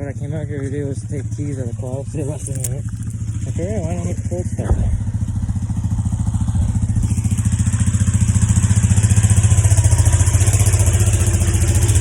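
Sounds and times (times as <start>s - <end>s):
quad engine idling: 0.0s - 12.0s.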